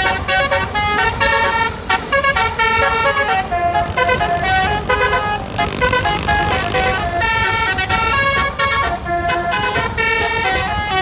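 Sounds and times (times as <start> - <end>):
musical air horn melody: 0.0 - 11.0.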